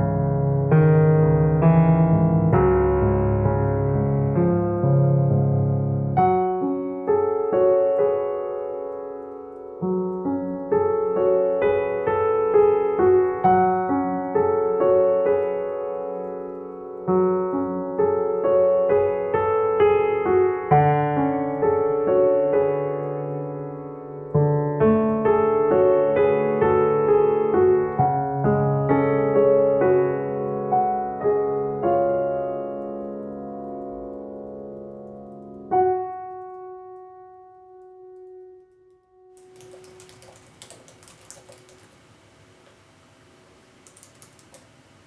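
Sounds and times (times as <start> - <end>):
slow solo piano piece: 0.0 - 42.1.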